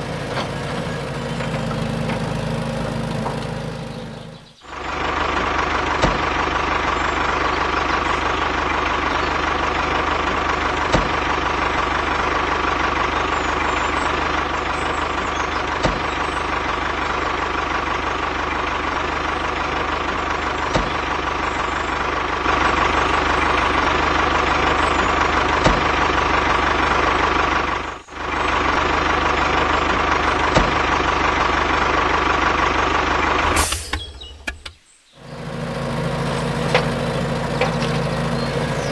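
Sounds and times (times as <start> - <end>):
engine-like hum: 0.0 - 38.9.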